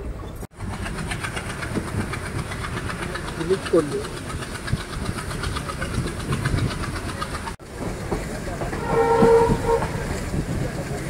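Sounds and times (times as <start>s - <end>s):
train wheels rumbling on rail: 0.0s - 11.0s
rail clicking: 0.6s - 11.0s.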